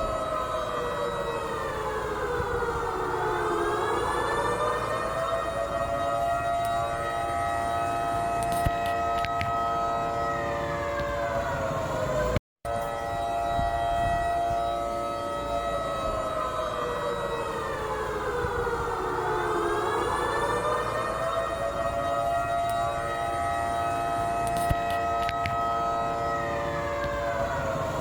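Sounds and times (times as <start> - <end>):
warning siren: 0.0 - 28.0.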